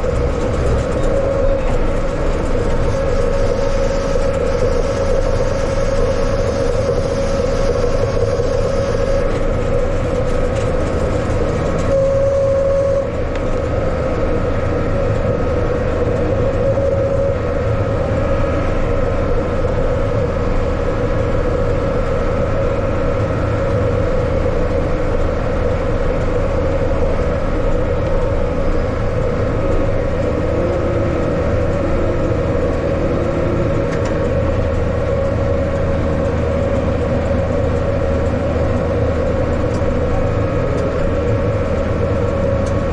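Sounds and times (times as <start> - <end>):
steady high whine: 0.0 - 42.9
tractor engine drone: 0.0 - 42.9.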